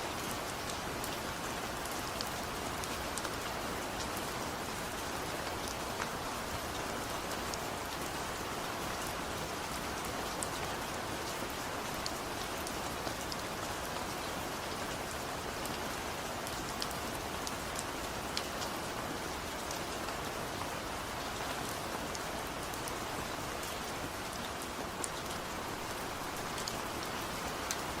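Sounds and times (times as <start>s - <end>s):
gentle rain falling: 0.0s - 28.0s.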